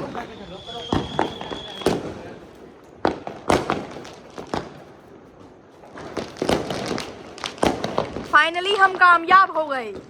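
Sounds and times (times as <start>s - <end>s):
firecrackers banging: 0.0s - 10.0s.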